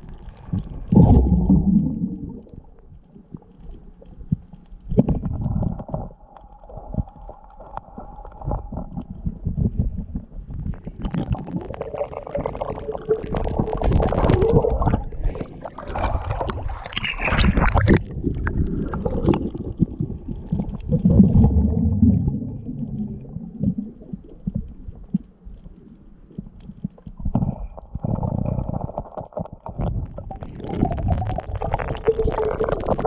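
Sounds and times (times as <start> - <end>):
air bubbles: 0.0 - 25.2, 26.4 - 33.0
underwater rumbling and gurgling: 0.0 - 33.0.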